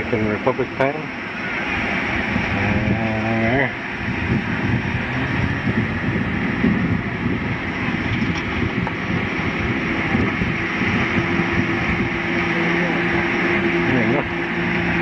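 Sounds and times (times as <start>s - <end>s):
faint engine drone: 0.0s - 15.0s
wind rumbling on microphone: 0.0s - 15.0s.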